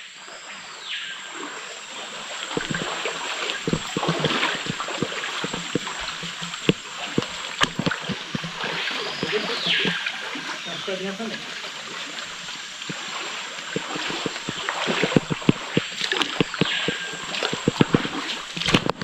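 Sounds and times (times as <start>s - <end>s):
running water: 0.0s - 19.0s
footsteps wading through water: 1.3s - 19.0s.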